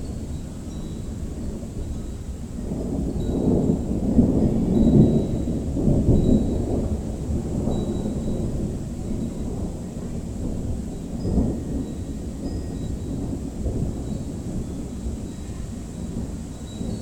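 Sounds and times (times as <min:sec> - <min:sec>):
thunder rumbling: 0:01.6 - 0:17.0.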